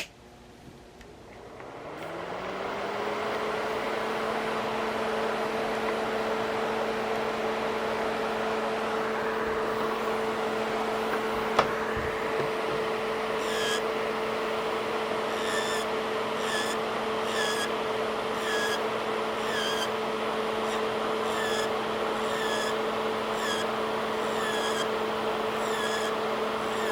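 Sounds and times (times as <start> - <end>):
electric nail drill whining: 1.4 - 26.9.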